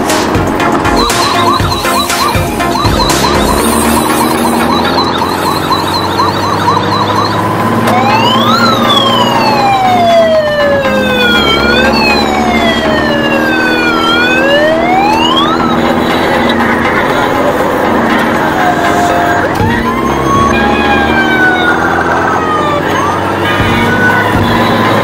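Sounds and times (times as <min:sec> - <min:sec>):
toy fire truck siren: 0:00.9 - 0:25.0.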